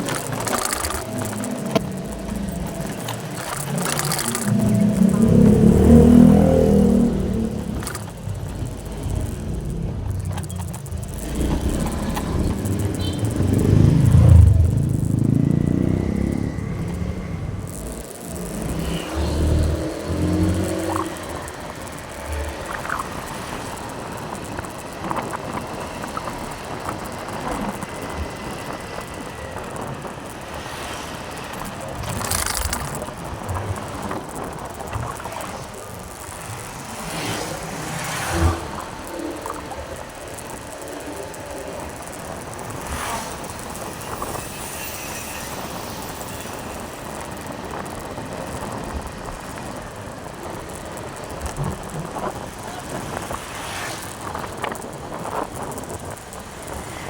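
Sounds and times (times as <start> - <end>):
motorbike engine: 0.0 - 57.0
road noise: 0.0 - 57.0
wind rushing over microphone: 0.0 - 57.0.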